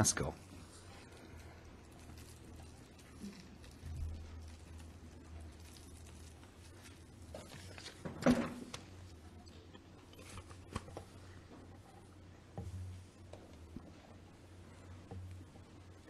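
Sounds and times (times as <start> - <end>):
low steady hum: 0.0 - 16.0
faint knocks and rustles: 0.5 - 16.0.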